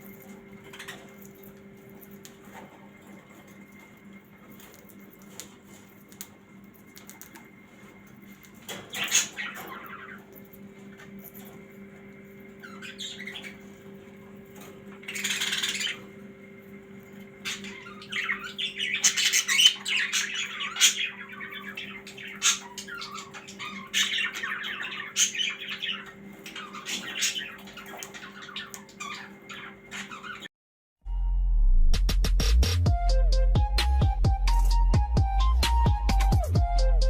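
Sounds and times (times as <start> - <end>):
small birds chirping: 0.0 - 30.5
steady low hum: 0.0 - 30.5.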